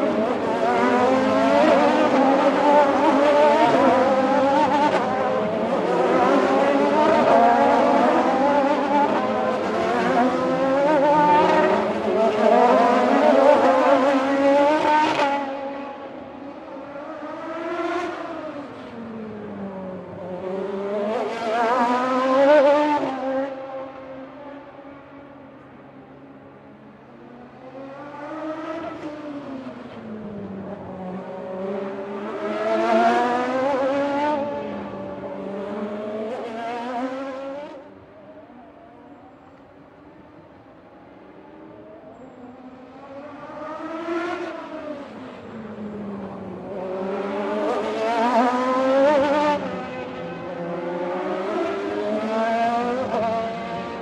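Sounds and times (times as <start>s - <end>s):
race car engines passing at high revs: 0.0s - 54.0s.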